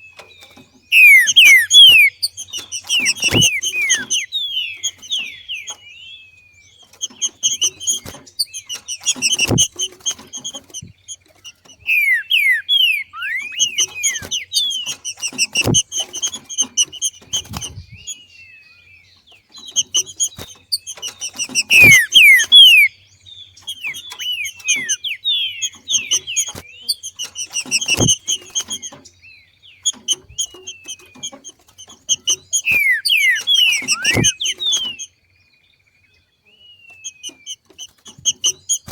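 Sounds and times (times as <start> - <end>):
bird chirps and whistled notes: 0.0 - 38.9.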